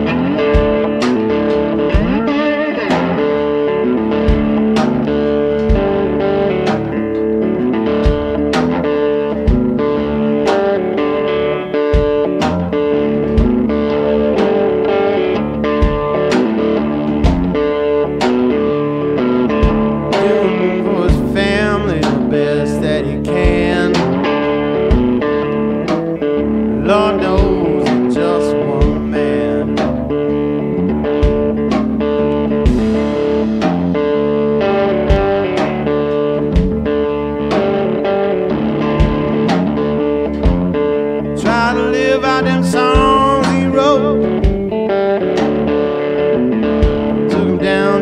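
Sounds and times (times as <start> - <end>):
blues song with guitar and singing: 0.0 - 48.0.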